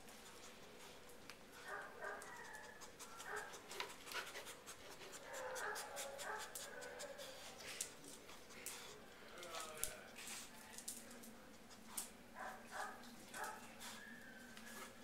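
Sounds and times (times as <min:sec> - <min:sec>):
dog panting and sniffing: 0:00.0 - 0:10.6, 0:11.5 - 0:15.0.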